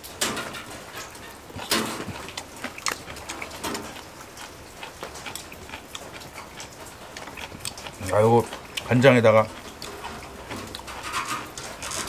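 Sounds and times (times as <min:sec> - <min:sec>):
chewing with light clicks: 0:01.0 - 0:10.9.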